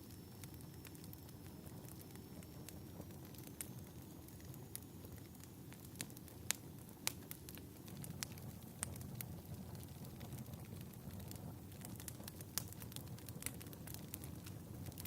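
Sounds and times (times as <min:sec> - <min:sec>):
fire crackling and snapping: 0:00.0 - 0:15.0
low rumble of burning wood: 0:00.0 - 0:15.0.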